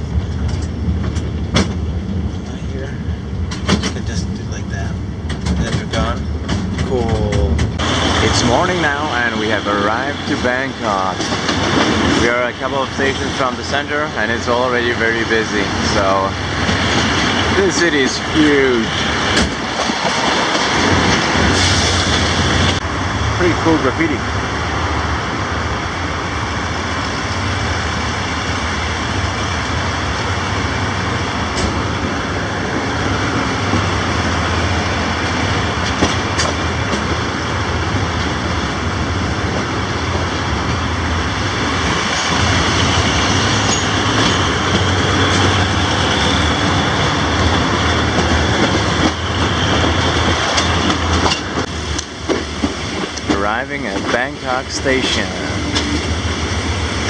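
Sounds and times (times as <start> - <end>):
train wheels rumbling: 0.0 - 57.0
rails clicking: 0.1 - 2.6, 3.3 - 22.8, 24.8 - 57.0.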